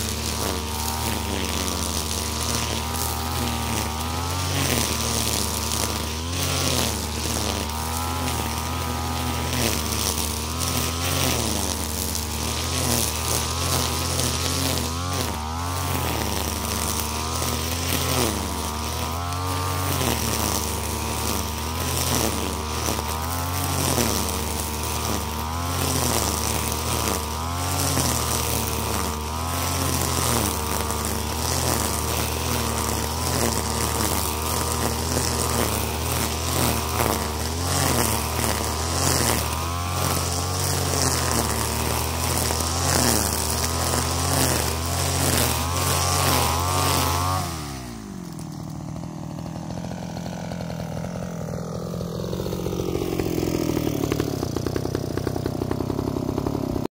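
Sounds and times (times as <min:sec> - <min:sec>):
brushcutter engine running: 0:00.0 - 0:56.9
trimmer line cutting grass: 0:00.0 - 0:56.9.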